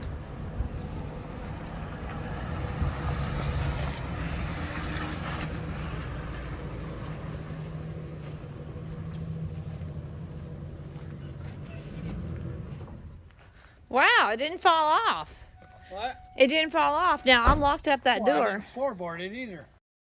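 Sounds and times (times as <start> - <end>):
truck engine humming: 0.0 - 19.4
road and wind noise: 0.0 - 19.6.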